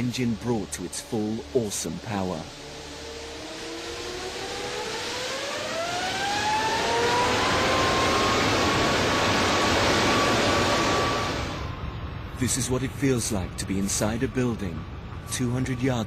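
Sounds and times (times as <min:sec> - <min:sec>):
jet engine roar: 0:00.0 - 0:16.0
jet engine whine: 0:00.0 - 0:16.0.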